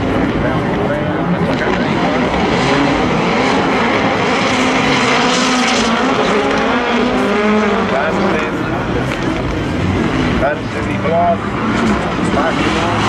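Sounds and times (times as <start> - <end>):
race cars passing at full throttle: 0.0 - 13.0.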